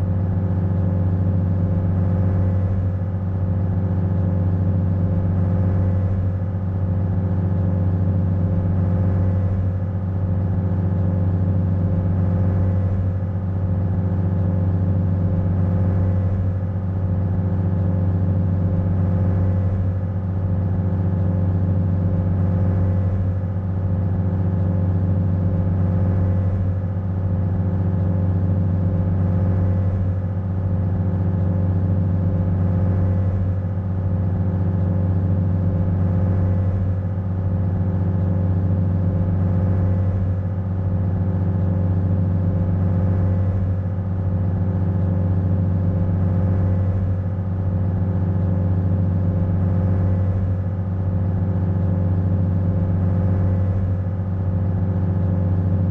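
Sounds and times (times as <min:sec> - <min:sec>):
ferry engine droning: 0:00.0 - 0:55.9.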